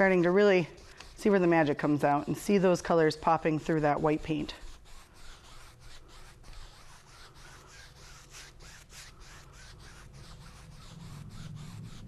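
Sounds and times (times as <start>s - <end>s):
paintbrush sweeping over canvas: 0.0s - 12.0s.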